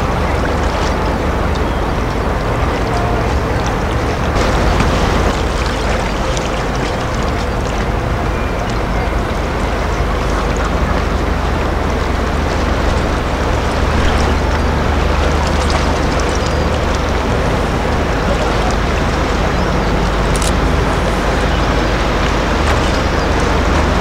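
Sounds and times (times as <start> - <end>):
rushing wind and water: 0.0 - 24.0
ship engine drone: 0.0 - 24.0.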